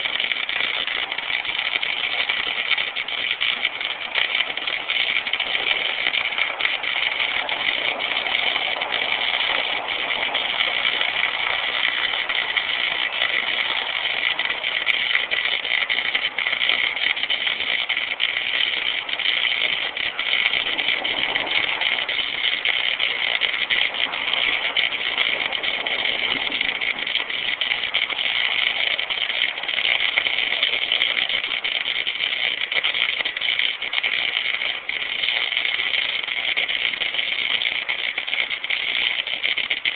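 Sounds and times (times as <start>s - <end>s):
arc welding crackle and hiss: 0.0s - 39.9s.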